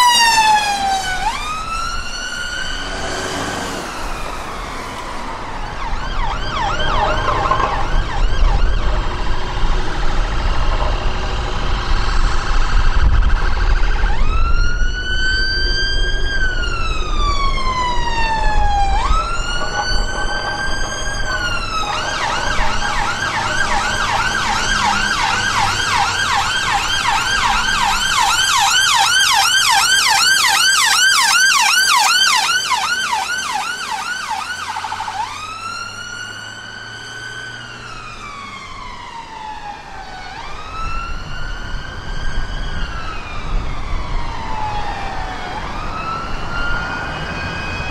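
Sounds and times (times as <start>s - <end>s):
ambulance siren wailing and yelping: 0.0s - 47.9s.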